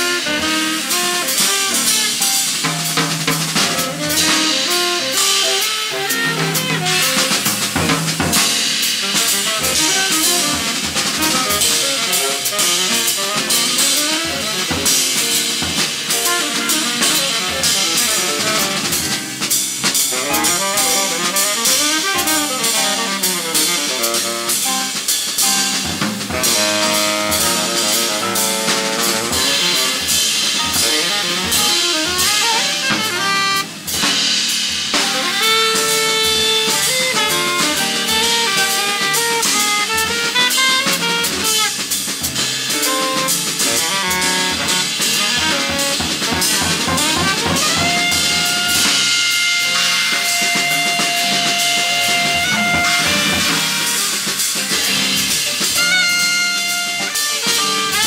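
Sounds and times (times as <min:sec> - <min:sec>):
double bass: 0:00.0 - 0:25.0, 0:25.6 - 0:39.6, 0:42.1 - 0:54.6
drum kit and cymbals: 0:00.0 - 0:58.0
saxophone: 0:00.0 - 0:58.0.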